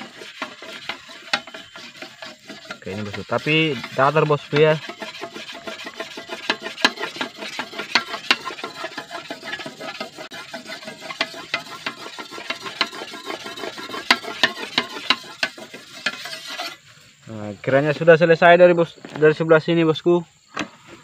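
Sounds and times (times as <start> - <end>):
whetstone scraping steel blade: 0.0 - 16.8.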